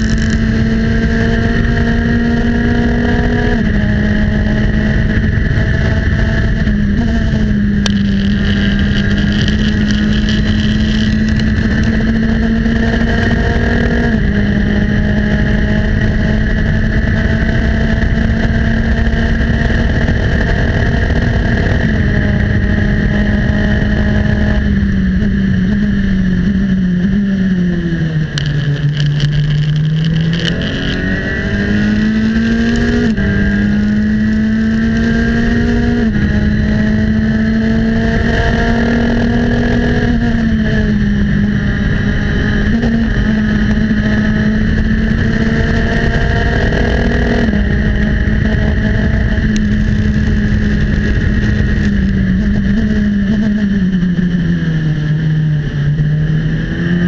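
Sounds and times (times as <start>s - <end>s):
race car engine at high revs: 0.0s - 57.0s
wind rush: 0.0s - 57.0s.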